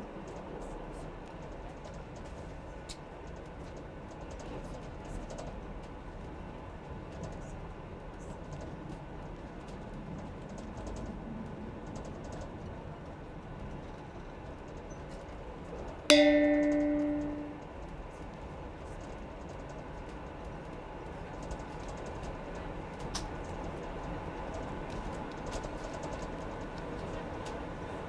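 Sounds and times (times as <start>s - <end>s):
train rumbling on track: 0.0s - 17.5s, 18.3s - 28.0s.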